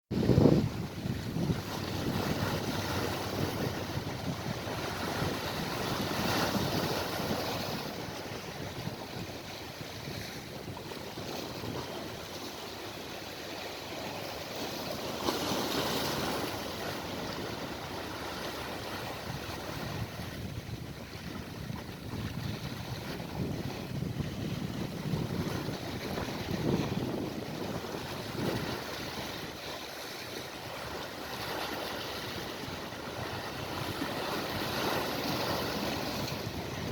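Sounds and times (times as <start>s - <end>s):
sea waves washing on shore: 0.1s - 36.9s.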